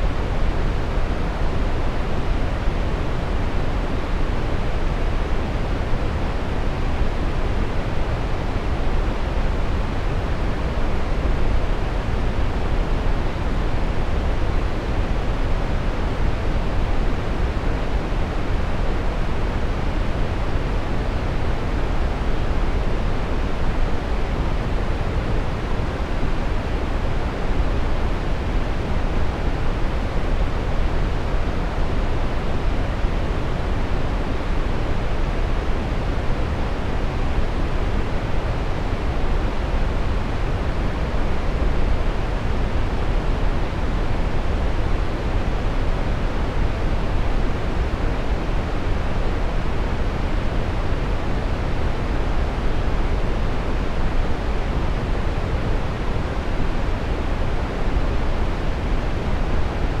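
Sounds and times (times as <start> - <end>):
brown noise hiss: 0.0 - 60.0.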